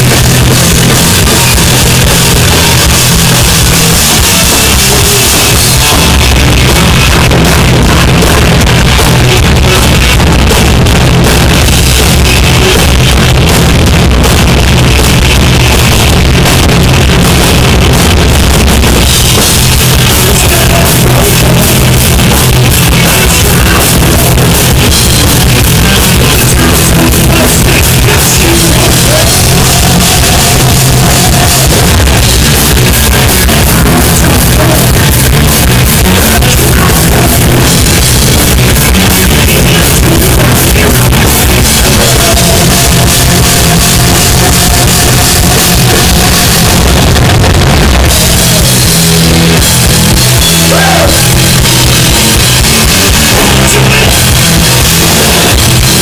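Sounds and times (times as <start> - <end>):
distorted electric guitars: 0.0 - 56.0
rock drum kit: 0.0 - 56.0.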